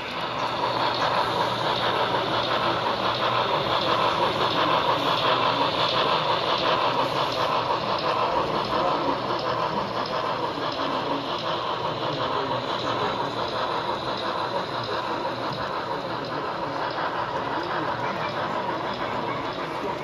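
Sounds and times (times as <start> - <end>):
model locomotive rattling: 0.0 - 20.0.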